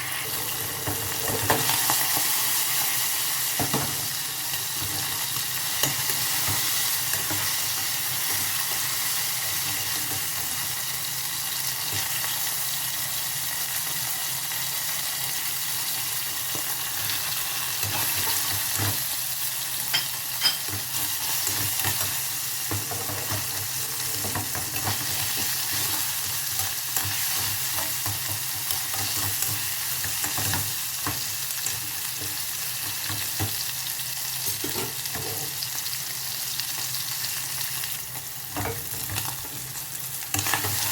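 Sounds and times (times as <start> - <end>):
vegetables sizzling in a pan: 0.0 - 40.9.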